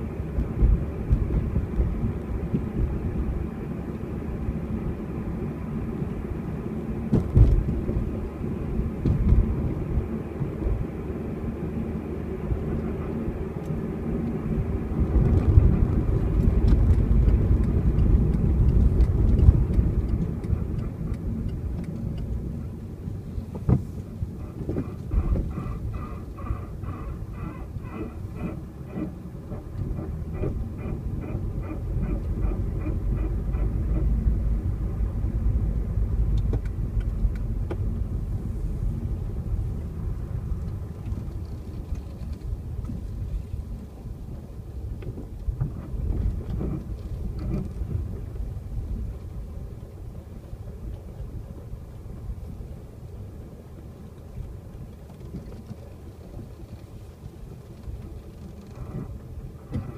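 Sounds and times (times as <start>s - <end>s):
car driving low rumble: 0.0s - 59.9s.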